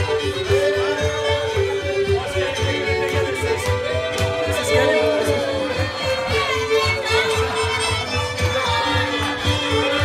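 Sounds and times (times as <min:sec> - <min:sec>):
fiddle playing dance tune: 0:00.0 - 0:10.0.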